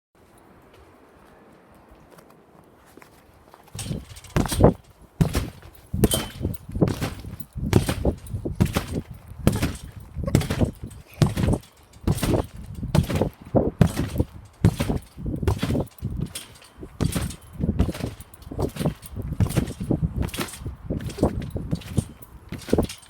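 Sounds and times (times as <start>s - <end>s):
trampoline bouncing thumps: 3.7s - 23.0s.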